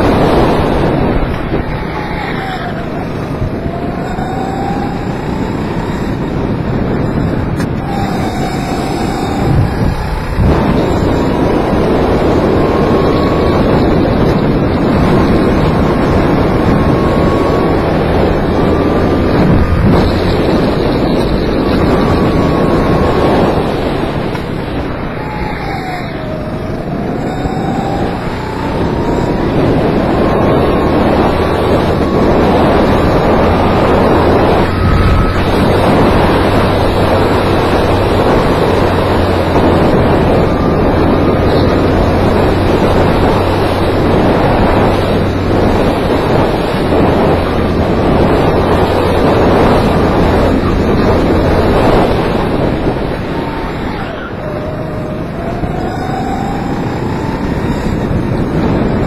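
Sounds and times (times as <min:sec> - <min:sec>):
kart engine: 0:00.0 - 0:59.0
wind noise on microphone: 0:00.0 - 0:59.0.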